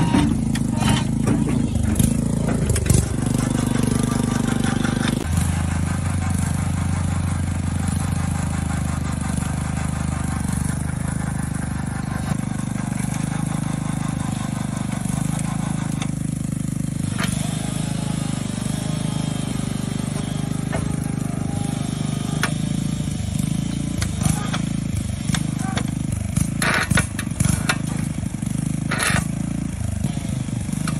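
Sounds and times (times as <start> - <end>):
deep machine hum: 0.0 - 26.4
drilling rig mechanical drone: 0.0 - 30.9.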